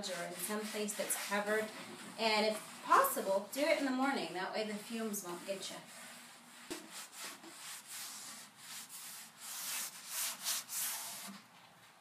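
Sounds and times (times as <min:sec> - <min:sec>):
cloth rag rubbing wood: 0:00.0 - 0:02.2, 0:02.9 - 0:11.4.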